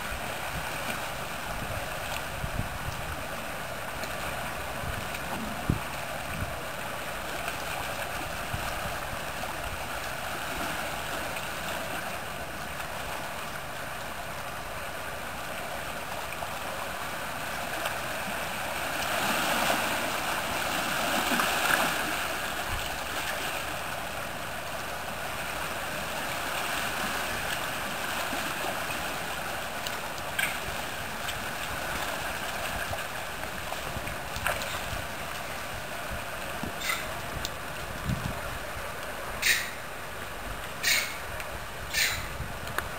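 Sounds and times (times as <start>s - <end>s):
sea water washing over rocks: 0.0s - 42.9s.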